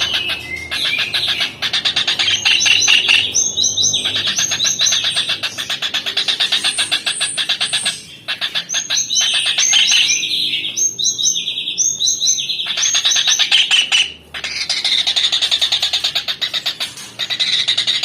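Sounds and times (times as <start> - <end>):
kingfisher calling: 0.0 - 18.0.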